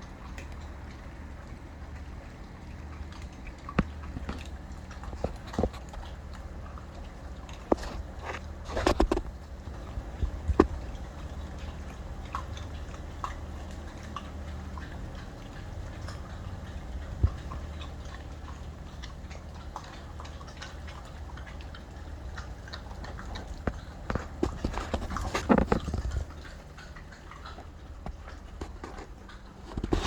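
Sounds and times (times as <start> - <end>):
puppies chewing bones: 0.0 - 30.0
steady low hum: 0.0 - 30.0.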